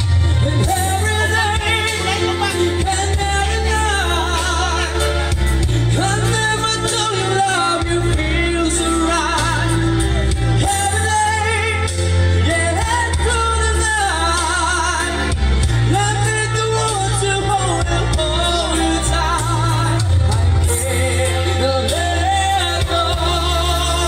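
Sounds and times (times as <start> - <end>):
backing track with bass: 0.0 - 24.0
person singing with vibrato: 0.0 - 24.0.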